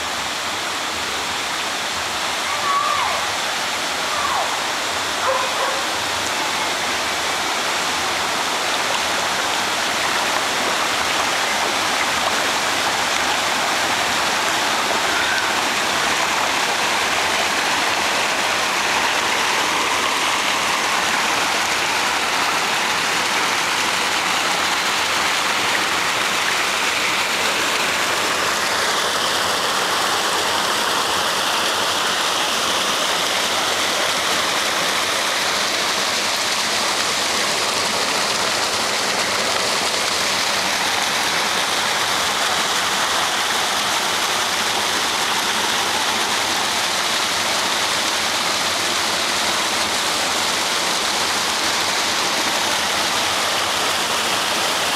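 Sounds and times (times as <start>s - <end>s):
rushing water: 0.0s - 54.9s.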